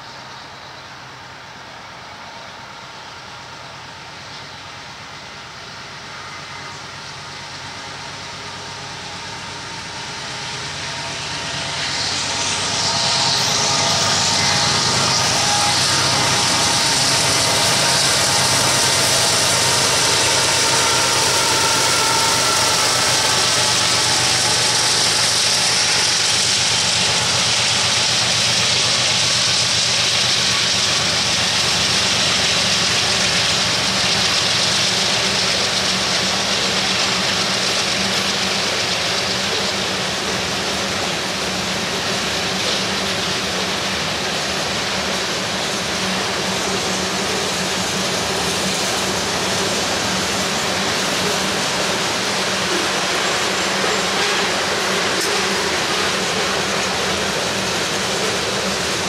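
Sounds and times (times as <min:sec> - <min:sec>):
diesel locomotive engine hum: 0:00.0 - 0:59.0
train rolling rumble on rails: 0:00.0 - 0:59.0.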